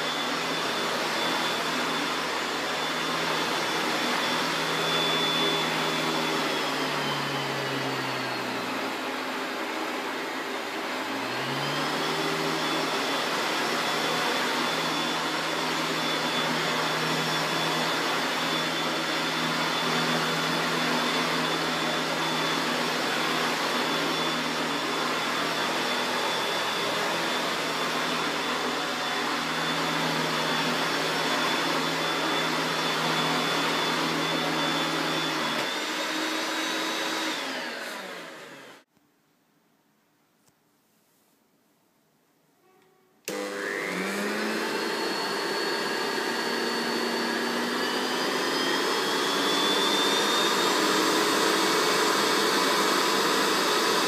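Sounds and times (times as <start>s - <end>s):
vacuum cleaner motor whine: 0.0s - 38.9s, 43.2s - 54.0s.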